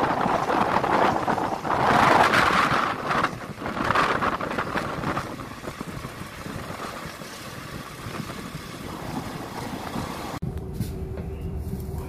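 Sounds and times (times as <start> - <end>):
wind rushing over microphone: 0.0 - 10.4
train wheels rumbling on track: 0.0 - 12.0.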